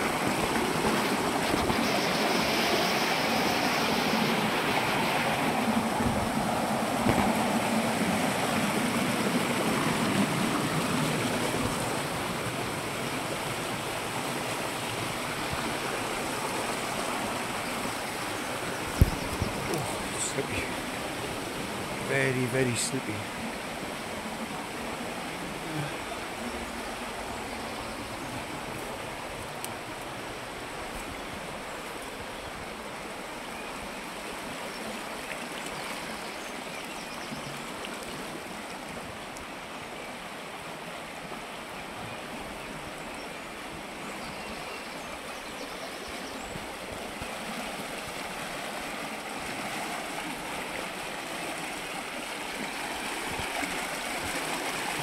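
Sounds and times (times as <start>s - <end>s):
river rushing over cascades: 0.0s - 36.8s, 46.3s - 55.0s.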